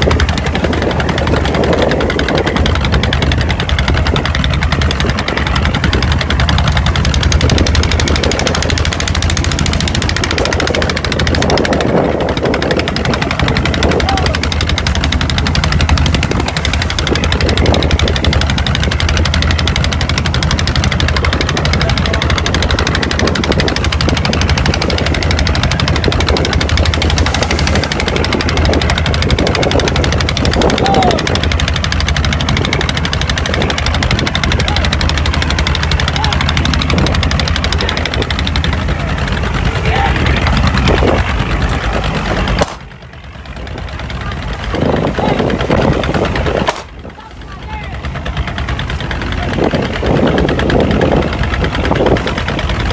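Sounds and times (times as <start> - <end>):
boat engine knocking: 0.0 - 52.9
voices: 0.0 - 52.9.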